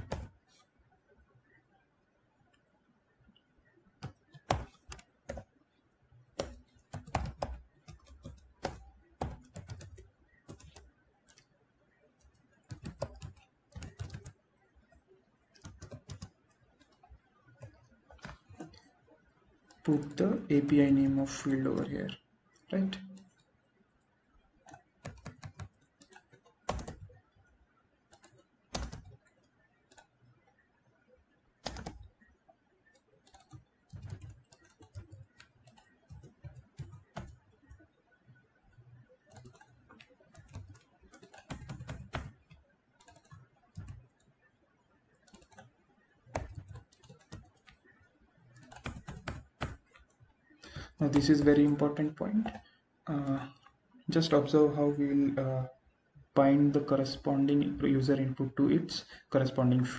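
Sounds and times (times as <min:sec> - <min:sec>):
typing on a computer keyboard: 0:00.0 - 0:00.7, 0:03.6 - 0:05.6, 0:06.2 - 0:23.6, 0:24.4 - 0:54.4.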